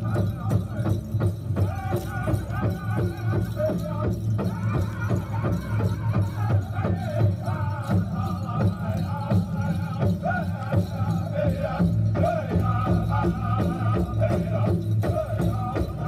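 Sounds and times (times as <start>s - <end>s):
big drum beat: 0.0s - 16.0s
group singing: 0.0s - 16.0s.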